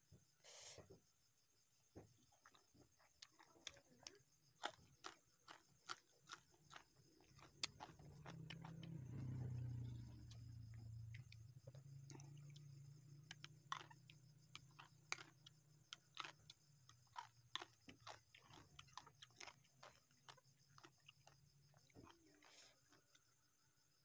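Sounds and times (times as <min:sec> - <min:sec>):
faint low hum: 0:00.0 - 0:24.0
chewing crunches: 0:02.2 - 0:23.2.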